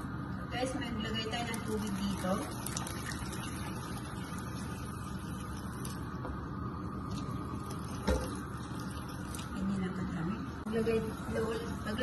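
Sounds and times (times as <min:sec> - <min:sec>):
water pouring into a pot: 0:01.4 - 0:06.2, 0:06.9 - 0:12.0.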